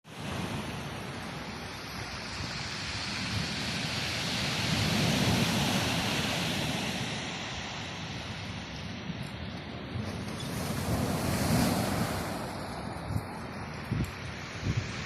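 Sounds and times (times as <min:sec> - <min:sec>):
ocean surf on a beach: 0:00.1 - 0:15.0
wind rumbling on microphone: 0:00.1 - 0:15.0.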